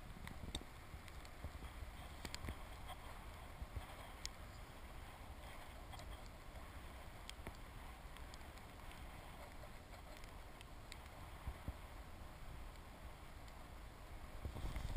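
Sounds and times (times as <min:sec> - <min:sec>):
faint clicks: 0:00.0 - 0:04.6, 0:05.3 - 0:11.8, 0:12.6 - 0:13.8
wind buffeting microphone: 0:00.0 - 0:14.9.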